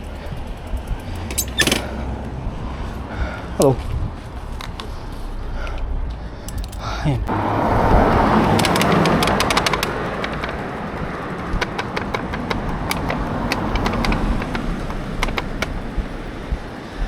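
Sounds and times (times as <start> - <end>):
bicycle clicks and rattles: 0.0 - 6.9, 8.1 - 17.0
road and air noise: 0.0 - 17.0.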